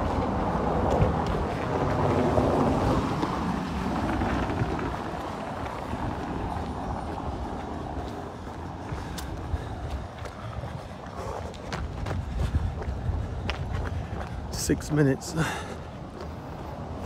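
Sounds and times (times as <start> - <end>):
vehicle passing: 0.0 - 17.0
wind buffeting microphone: 0.0 - 17.0.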